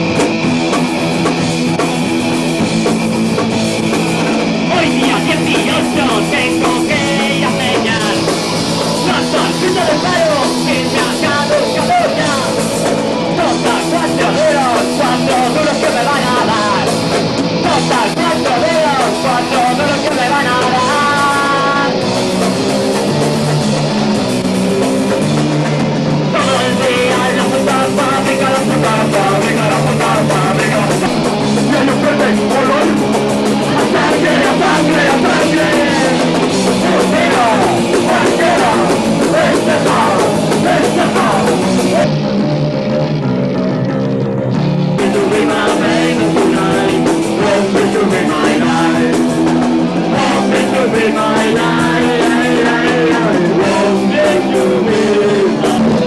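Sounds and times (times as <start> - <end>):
drums: 0.0 - 56.0
electric guitar: 0.0 - 56.0
rock band playing live: 0.0 - 56.0.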